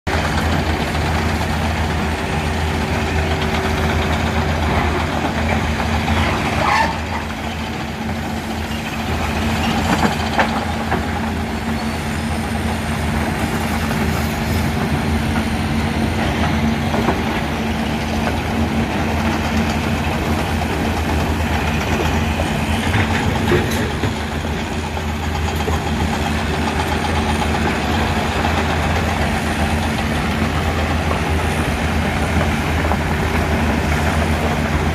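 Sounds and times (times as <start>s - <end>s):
stone crusher and excavator drone: 0.1s - 34.9s.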